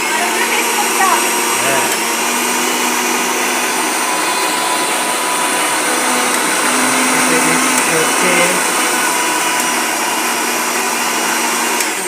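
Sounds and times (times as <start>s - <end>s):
mixer grinder running: 0.0s - 12.0s.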